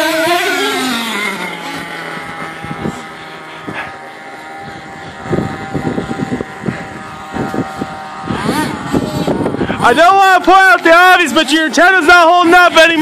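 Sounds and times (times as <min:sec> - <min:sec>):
high whine: 0:00.0 - 0:13.0
small nitro engines revving: 0:00.0 - 0:13.0.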